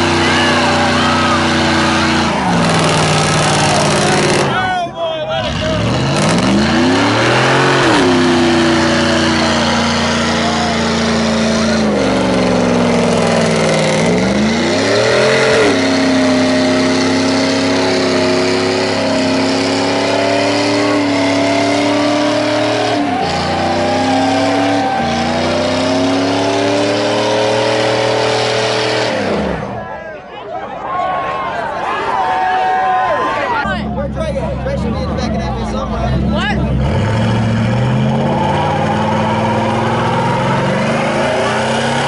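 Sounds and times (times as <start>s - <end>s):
pickup engine revving: 0.0s - 4.7s, 5.4s - 29.8s, 33.6s - 42.0s.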